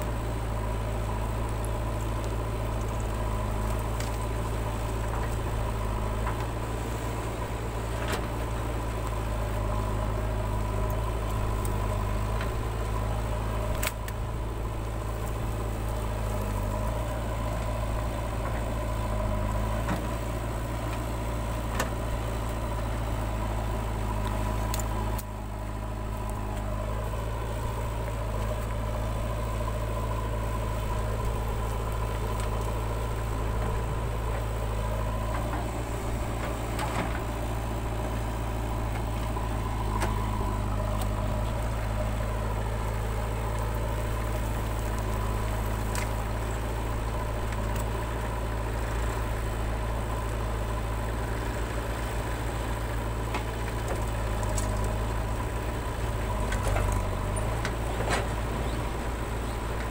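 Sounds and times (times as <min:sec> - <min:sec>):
backhoe digging soil: 0:00.0 - 0:59.9
diesel engine running: 0:00.0 - 0:59.9.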